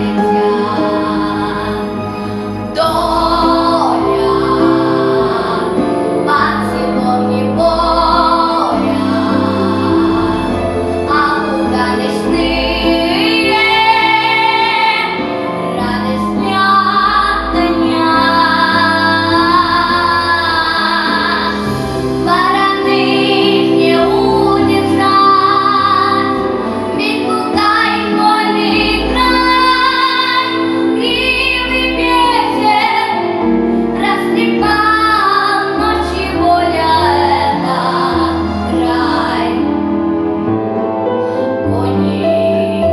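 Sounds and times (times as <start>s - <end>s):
instrumental accompaniment: 0.0s - 42.9s
woman singing: 2.7s - 39.7s, 41.6s - 42.9s.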